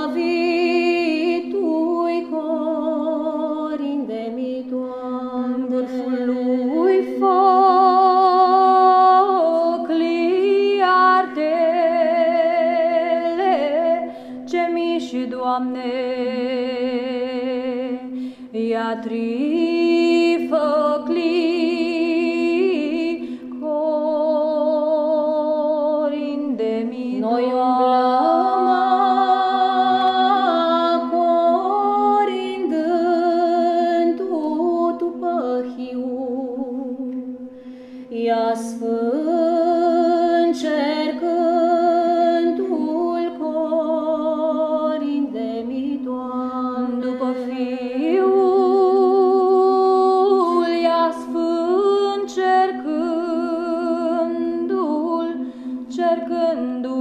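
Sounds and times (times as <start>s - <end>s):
women's choir singing a cappella: 0.0s - 37.2s, 38.2s - 57.0s.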